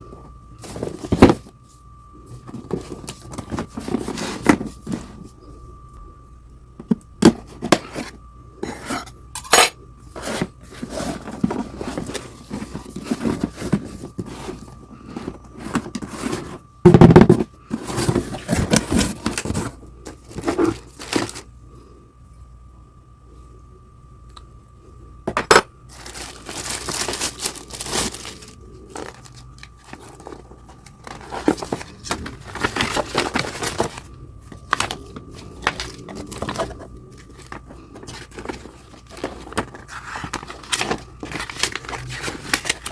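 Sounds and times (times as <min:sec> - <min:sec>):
faint steady high tone: 0:00.0 - 0:16.9, 0:17.5 - 0:42.8
cardboard and plastic parts rustling: 0:00.1 - 0:05.4, 0:06.8 - 0:21.5, 0:25.3 - 0:42.9.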